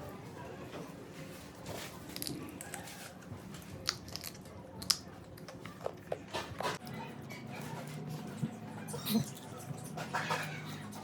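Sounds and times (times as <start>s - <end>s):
child chewing crunchy food: 1.7s - 11.0s.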